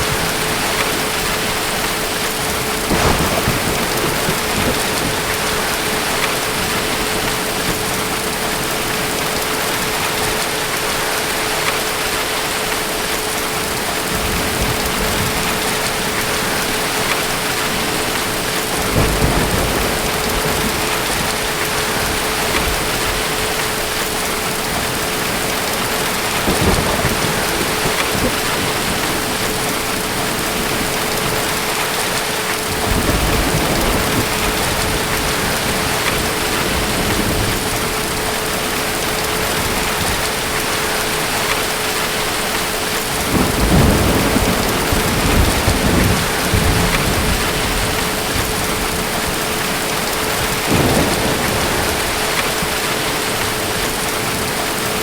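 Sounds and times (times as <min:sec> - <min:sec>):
distant thunder rumbling: 0:00.0 - 0:10.4, 0:14.0 - 0:41.7, 0:42.4 - 0:55.0
steady rain pouring: 0:00.0 - 0:55.0.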